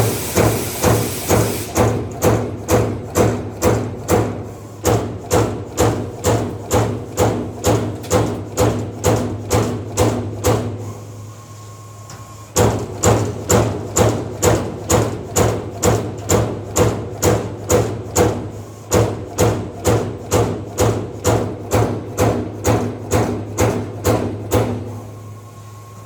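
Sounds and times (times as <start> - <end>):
punch press punching sheet metal: 0.0 - 10.9, 12.6 - 25.0.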